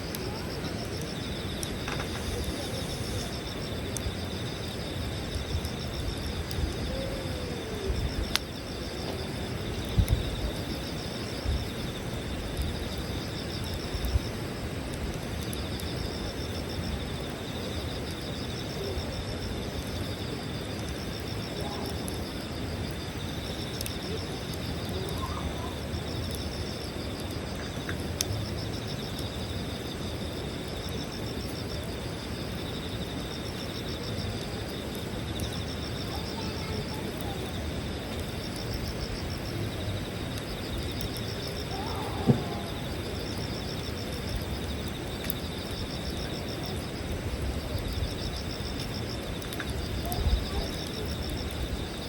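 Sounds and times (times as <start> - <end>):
higher insect trill: 0.0 - 14.4, 15.5 - 52.0
campfire crackling with pops: 0.0 - 52.0
insect trill: 0.0 - 52.0.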